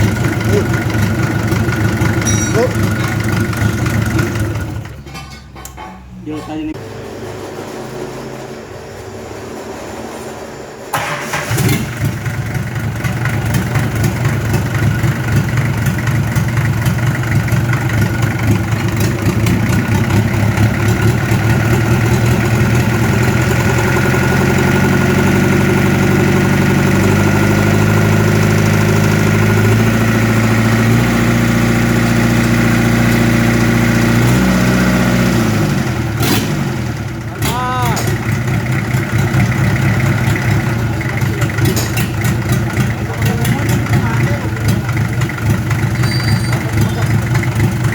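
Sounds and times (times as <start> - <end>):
diesel engine starting and running: 0.0 - 47.9.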